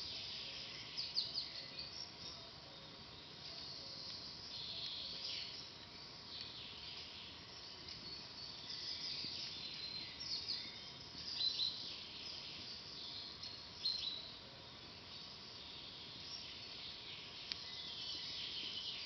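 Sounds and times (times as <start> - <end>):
birds singing and chirping: 0.0 - 19.0.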